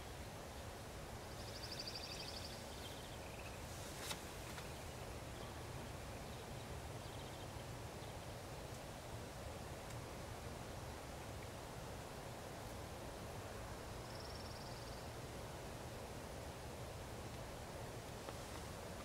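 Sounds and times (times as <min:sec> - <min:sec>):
low outdoor hiss: 0:00.0 - 0:19.0.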